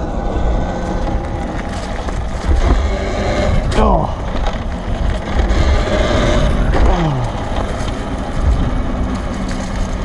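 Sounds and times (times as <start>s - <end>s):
electric motor whine: 0.0s - 10.0s
wind buffeting microphone: 0.0s - 10.0s.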